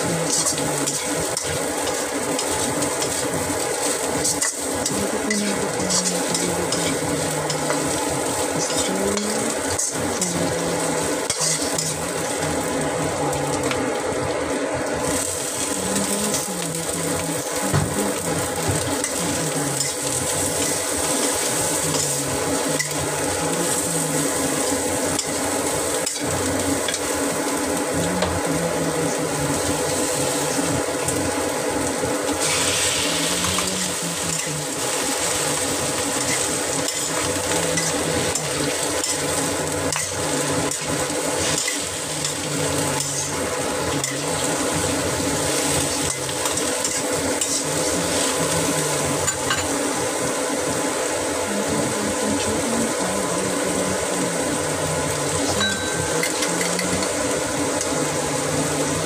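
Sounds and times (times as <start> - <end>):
stir-fry sizzling in a wok: 0.0 - 59.0.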